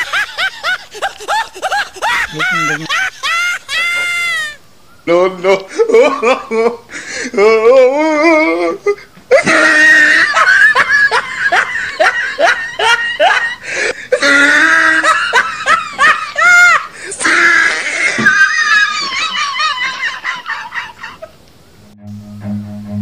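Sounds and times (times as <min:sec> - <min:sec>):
high squeal of laughter: 0:00.0 - 0:04.6, 0:07.4 - 0:21.4
people laughing: 0:00.0 - 0:21.4.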